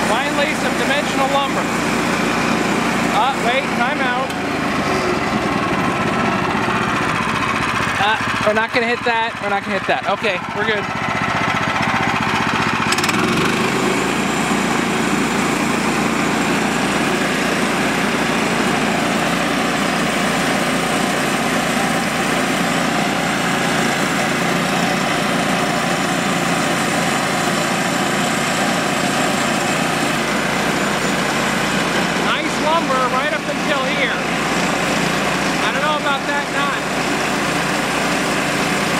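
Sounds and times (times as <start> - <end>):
band saw cutting log: 0.0 - 38.9
sawmill engine running under load: 0.0 - 38.9.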